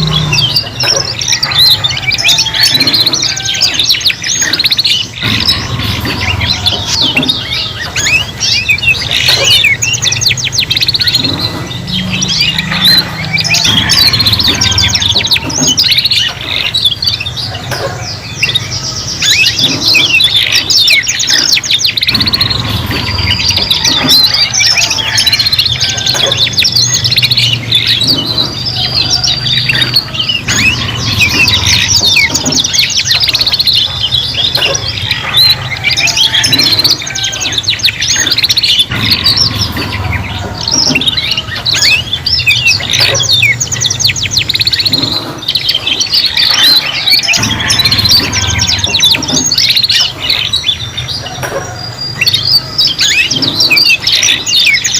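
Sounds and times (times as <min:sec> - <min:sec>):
canaries singing: 0:00.0 - 0:54.9.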